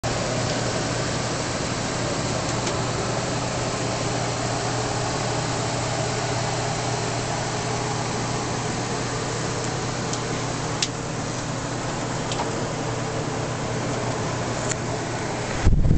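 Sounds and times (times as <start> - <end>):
fan hissing: 0.0 - 15.9.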